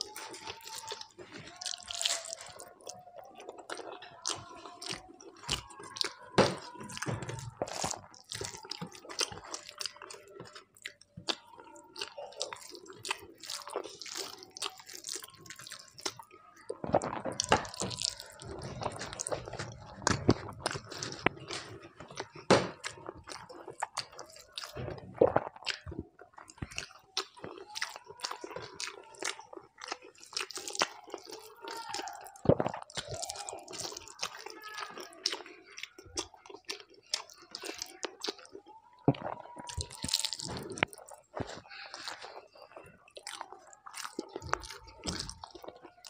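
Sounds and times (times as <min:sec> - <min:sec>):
wet chewing and lip-smacking: 0:00.0 - 0:46.0.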